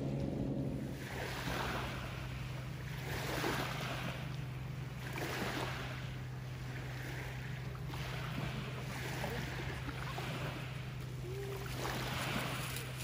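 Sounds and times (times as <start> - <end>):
motorboat engine hum: 0.0 - 13.0
sea waves washing in: 0.0 - 13.0.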